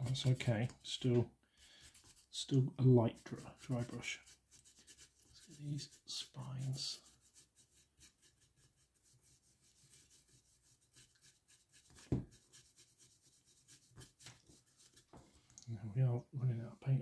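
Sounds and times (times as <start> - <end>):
brush scratching strokes: 0.0 - 15.4.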